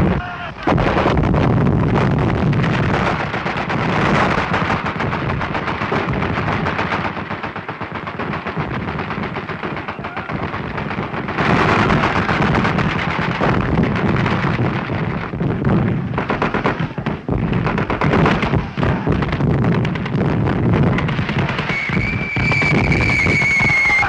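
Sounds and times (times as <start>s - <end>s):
rapid machine-gun fire: 0.7s - 24.0s.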